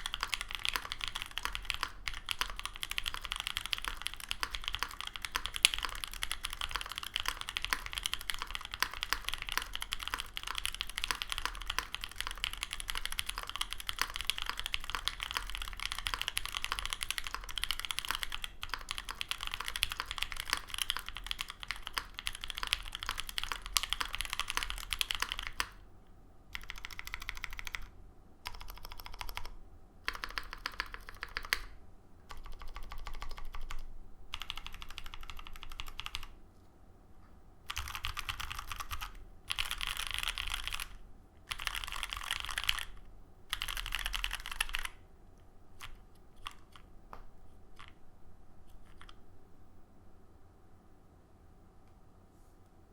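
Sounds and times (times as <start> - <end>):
mechanical keyboard typing: 0.0 - 25.8, 26.5 - 36.4, 37.7 - 45.0, 45.8 - 46.9, 47.8 - 48.0, 48.7 - 49.2.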